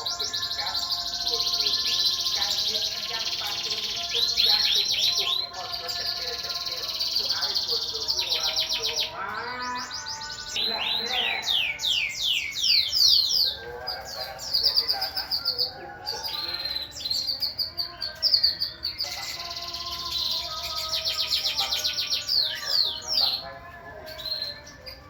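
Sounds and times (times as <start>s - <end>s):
birds singing and chirping: 0.0s - 25.0s.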